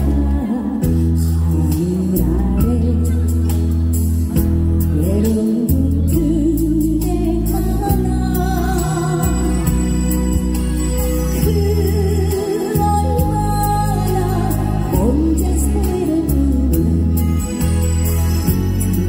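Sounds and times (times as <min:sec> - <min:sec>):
woman singing: 0:00.0 - 0:03.9, 0:04.8 - 0:17.6
backing band playing: 0:00.0 - 0:19.0.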